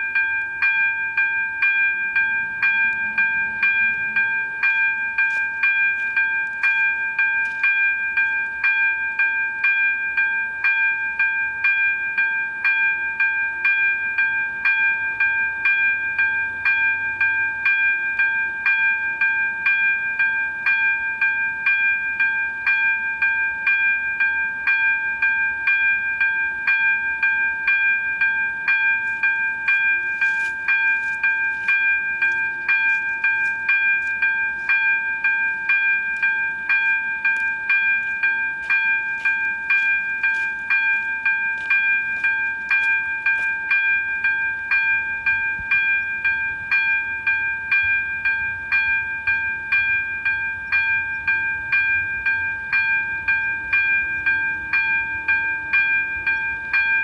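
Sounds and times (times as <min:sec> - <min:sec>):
level crossing warning bell: 0:00.0 - 0:57.0.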